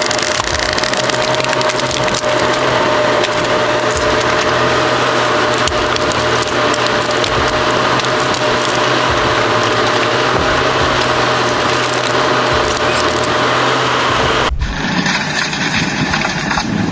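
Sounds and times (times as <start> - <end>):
machine humming: 0.0 - 16.8
wood cracking and splintering: 0.0 - 16.9.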